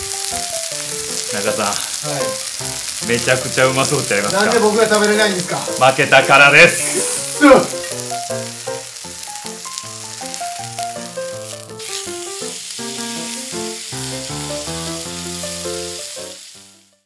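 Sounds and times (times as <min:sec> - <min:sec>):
background music with held notes: 0:00.0 - 0:17.0
steak sizzling in a frying pan: 0:00.0 - 0:17.0.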